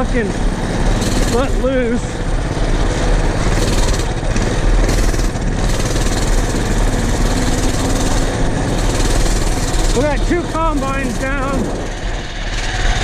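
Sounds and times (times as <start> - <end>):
farm machinery engine running: 0.0 - 13.0.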